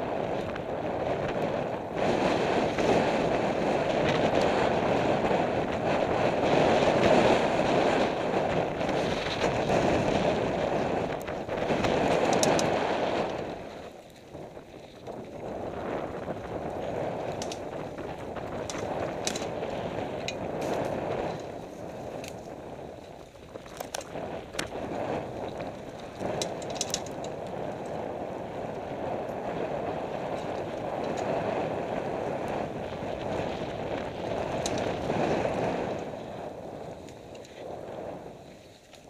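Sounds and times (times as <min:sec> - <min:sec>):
bike rattling over bumps: 0:00.0 - 0:39.0
tyre rumble: 0:00.0 - 0:39.0
wind rushing over microphone: 0:00.0 - 0:39.0.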